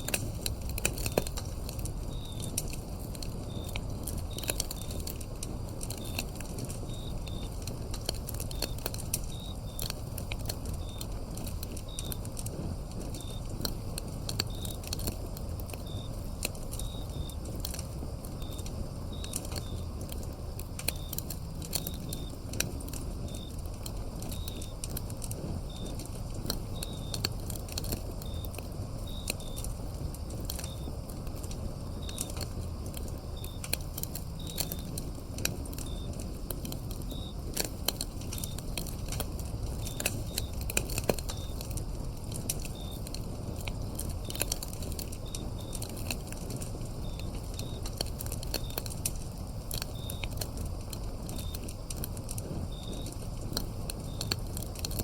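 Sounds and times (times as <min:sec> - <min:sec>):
crickets chirping: 0:00.0 - 0:55.0
wood fire crackling and popping: 0:00.0 - 0:55.0.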